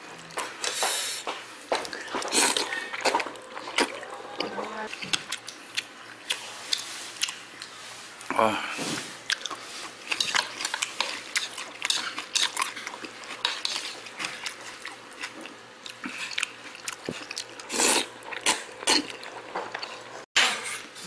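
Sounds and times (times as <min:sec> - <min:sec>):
chewing: 0:01.7 - 0:08.3, 0:09.2 - 0:20.2.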